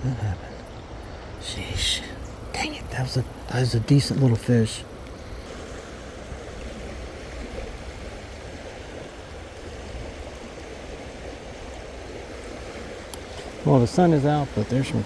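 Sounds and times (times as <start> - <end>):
creek water rushing over rapids: 0.0 - 15.0.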